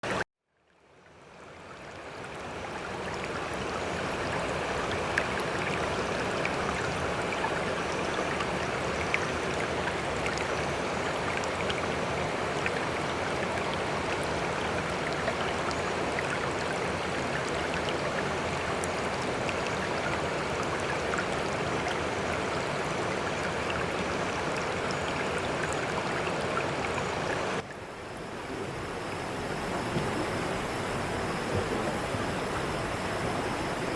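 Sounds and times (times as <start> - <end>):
stream water rushing: 1.3 - 33.9.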